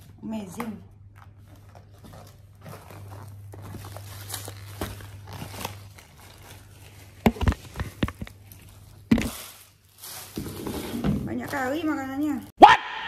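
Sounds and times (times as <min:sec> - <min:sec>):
bags and paper boxes rustling: 0:00.0 - 0:12.5.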